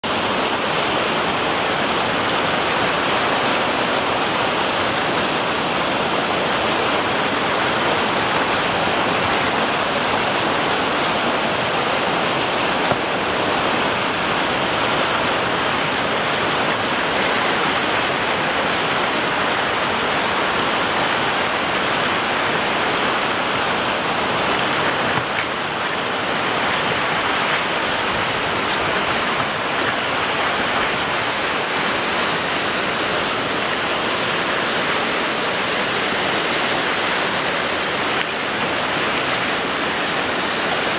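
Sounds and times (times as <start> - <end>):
whitewater rapids rushing: 0.0 - 40.9.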